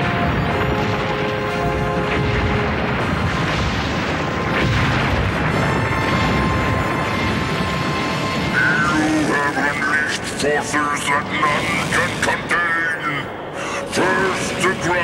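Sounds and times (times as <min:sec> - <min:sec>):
dramatic music: 0:00.0 - 0:15.0
low rumbling and booming effects: 0:00.0 - 0:15.0.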